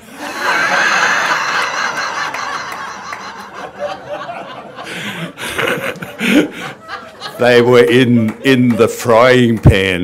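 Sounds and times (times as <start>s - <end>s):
crowd laughing: 0.0s - 9.3s
man laughing: 0.4s - 8.8s.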